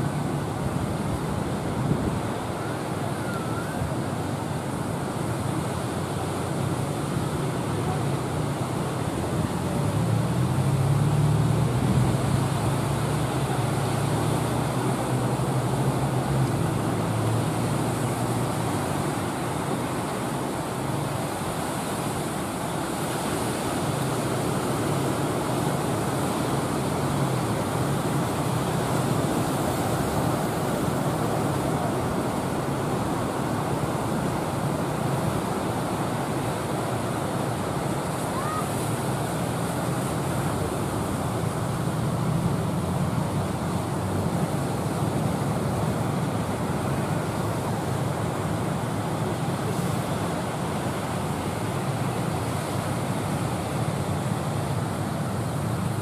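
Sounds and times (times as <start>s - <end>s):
surf on rough sea: 0.0s - 56.0s
wind: 0.0s - 56.0s.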